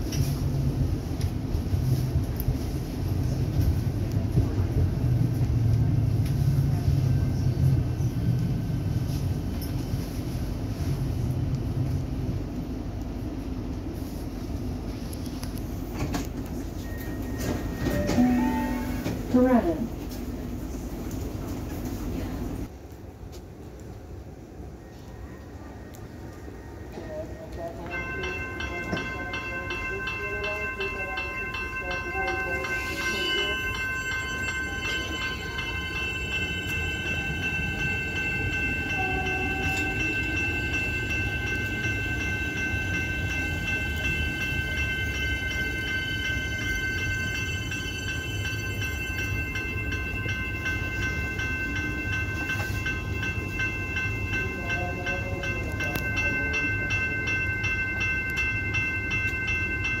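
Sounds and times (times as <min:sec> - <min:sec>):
train carriages rumbling: 0:00.0 - 1:00.0
high-pitched train whine: 0:00.2 - 0:20.8, 0:24.4 - 1:00.0.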